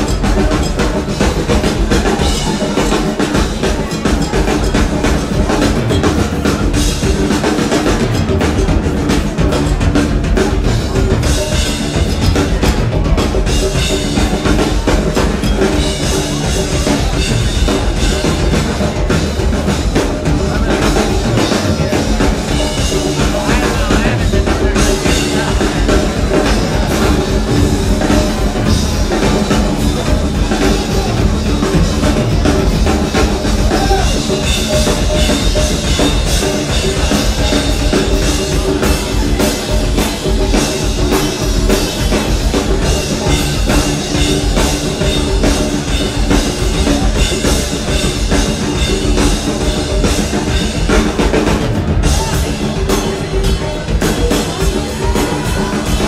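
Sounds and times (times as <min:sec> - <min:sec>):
bass drum beat: 0:00.0 - 0:56.0
rock band playing: 0:00.0 - 0:56.0.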